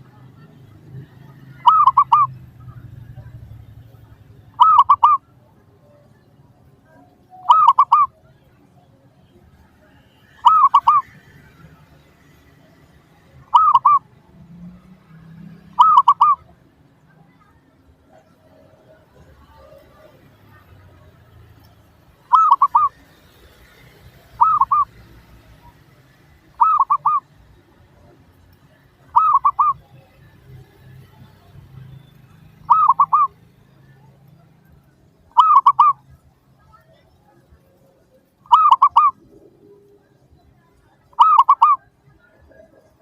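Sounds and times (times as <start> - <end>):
dove cooing: 0.0 - 9.0, 10.3 - 11.8, 13.2 - 14.3, 15.1 - 16.7, 17.4 - 21.1, 22.2 - 28.2, 28.8 - 43.0.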